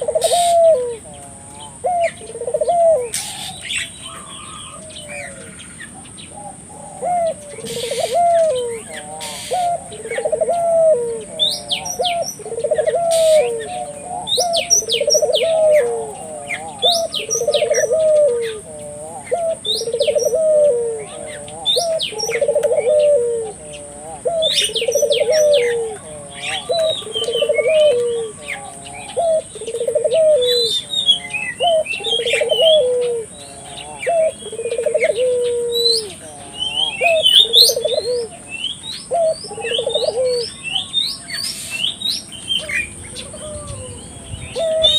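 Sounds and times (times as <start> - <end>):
steady high hiss: 0.0 - 39.0
dove cooing: 0.0 - 44.9
small birds chirping: 0.0 - 44.9.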